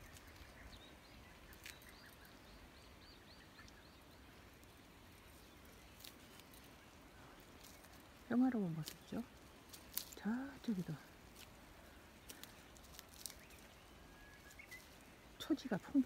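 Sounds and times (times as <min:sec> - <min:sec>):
faint outdoor ambience: 0:00.0 - 0:16.0
small bird chirping: 0:00.0 - 0:16.0.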